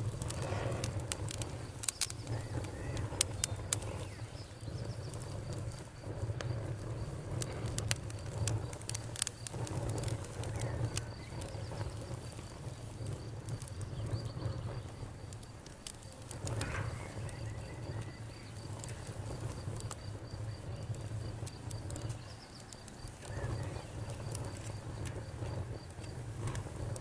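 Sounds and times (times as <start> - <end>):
campfire crackling and popping: 0.0 - 27.0
high insect trill: 0.0 - 27.0.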